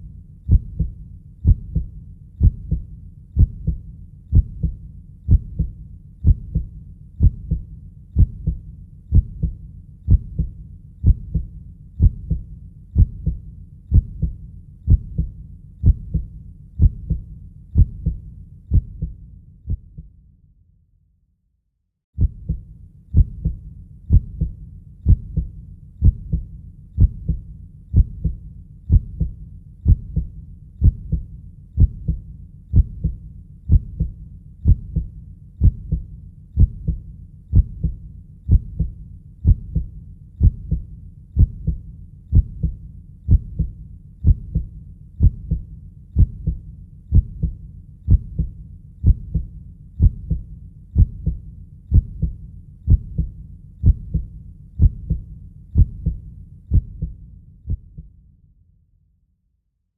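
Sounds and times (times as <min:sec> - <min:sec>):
deep heartbeat lub-dub: 0:00.0 - 0:20.1, 0:22.2 - 0:58.1.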